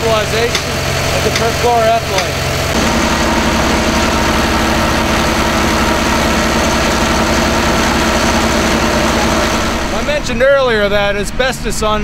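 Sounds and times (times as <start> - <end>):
drilling rig engine droning: 0.0 - 12.0.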